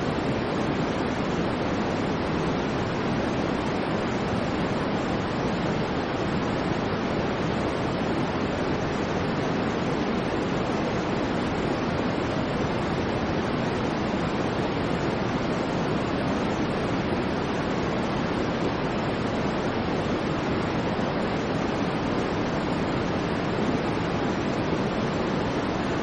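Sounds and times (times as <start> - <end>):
white noise hiss: 0.0 - 26.0.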